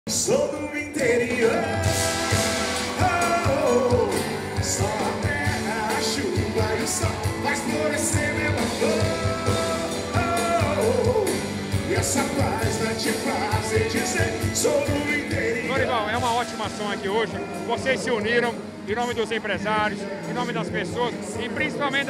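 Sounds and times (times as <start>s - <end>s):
live band with singing: 0.1s - 22.0s.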